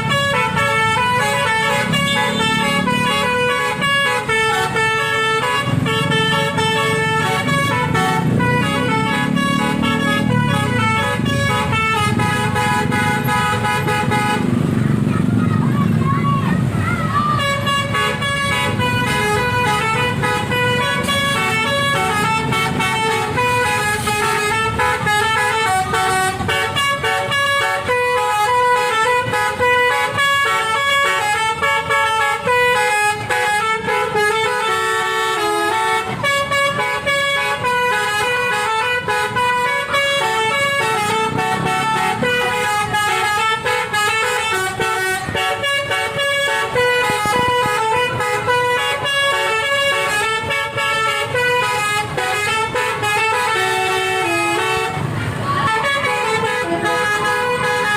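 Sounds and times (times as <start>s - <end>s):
multi-note bus air horn melody: 0.0s - 14.7s, 17.1s - 57.9s.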